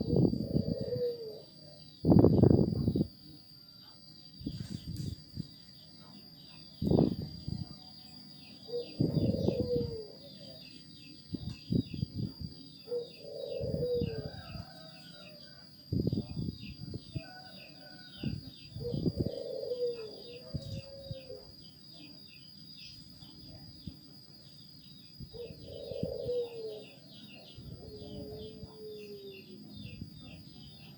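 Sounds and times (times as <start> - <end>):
dove cooing: 0.0 - 3.1, 6.0 - 22.3, 23.2 - 30.9.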